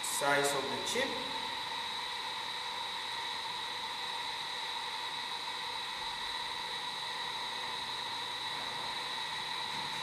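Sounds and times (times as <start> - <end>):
steady machine hiss: 0.0 - 10.0.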